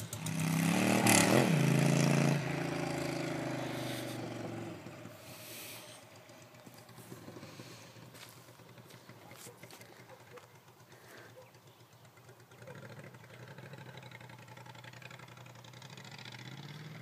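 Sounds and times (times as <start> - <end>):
motorcycle engine without mufflers: 0.0 - 17.0.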